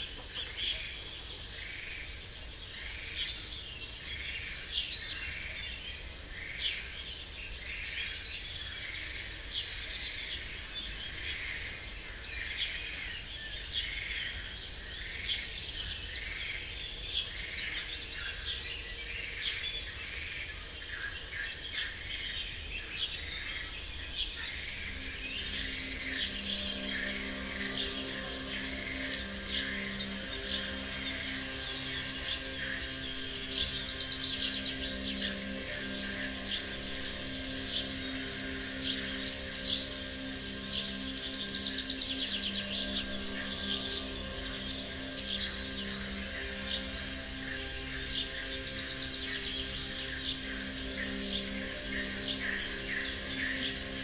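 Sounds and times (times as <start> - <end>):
birds chirping: 0.0 - 54.0
insect trill: 0.0 - 54.0.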